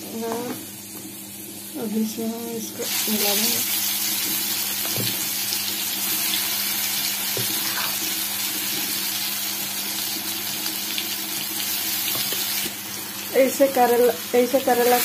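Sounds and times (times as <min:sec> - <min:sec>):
paste sizzling in hot oil: 0:00.7 - 0:15.0.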